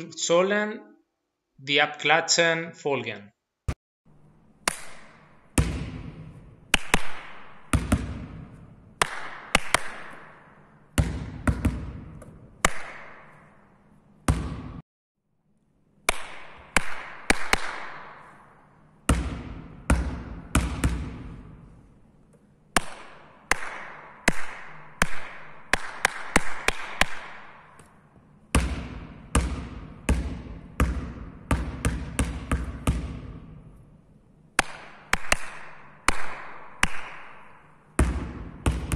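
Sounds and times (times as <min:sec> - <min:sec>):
basketball bouncing in echoing hall: 0:04.1 - 0:14.8, 0:15.9 - 0:38.9.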